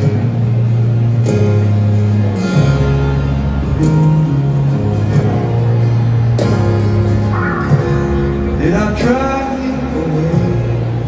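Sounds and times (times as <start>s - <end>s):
live band playing instrumental: 0.0s - 11.0s.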